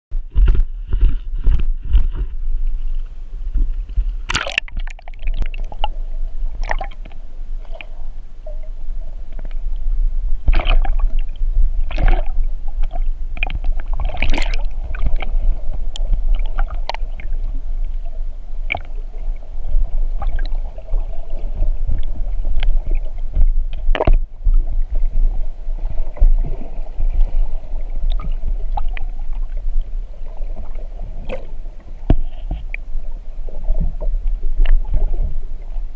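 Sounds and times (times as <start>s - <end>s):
steady low rumble: 0.1s - 35.9s
water sloshing and gurgling: 0.2s - 35.9s.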